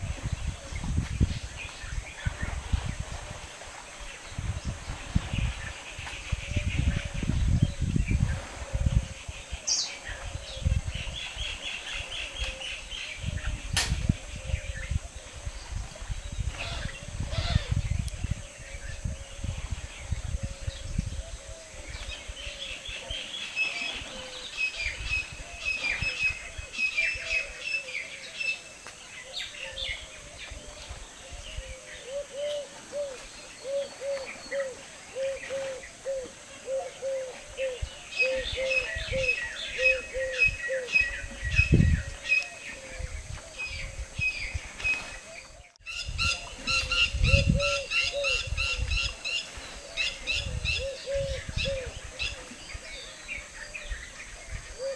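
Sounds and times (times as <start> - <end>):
birds chirping and twittering: 0.0 - 54.9.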